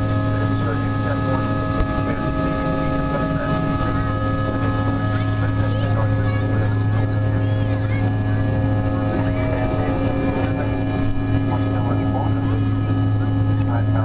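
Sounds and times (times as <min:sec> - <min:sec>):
jet cabin drone: 0:00.0 - 0:14.0.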